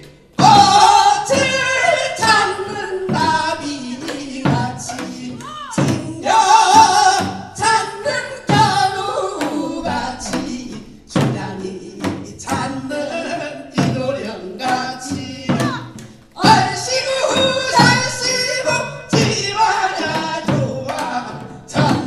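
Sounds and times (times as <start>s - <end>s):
drum strokes: 0.0s - 22.0s
man and woman folk singing: 0.0s - 22.0s.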